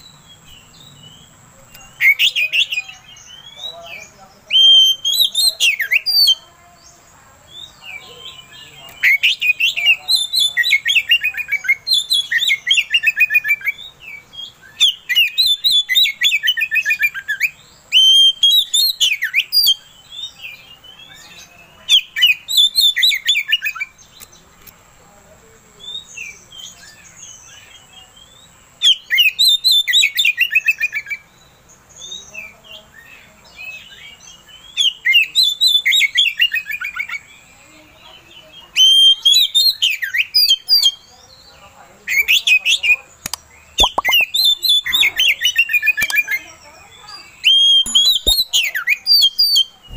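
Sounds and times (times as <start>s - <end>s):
magpie-robin singing: 0.0s - 24.6s, 25.8s - 49.9s.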